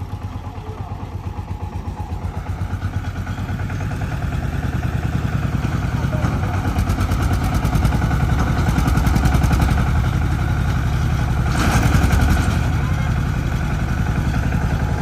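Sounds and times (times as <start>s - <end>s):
farm vehicle engine chugging: 0.0s - 15.0s.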